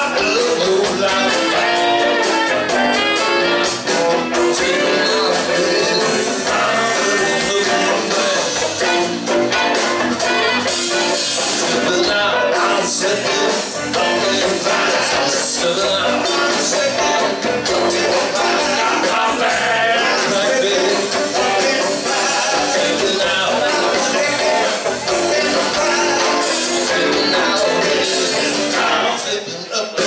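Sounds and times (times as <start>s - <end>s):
man singing: 0.0s - 2.3s, 3.8s - 9.1s, 11.4s - 30.0s
bass guitar: 0.0s - 30.0s
drums: 0.0s - 30.0s
electric guitar: 0.0s - 30.0s.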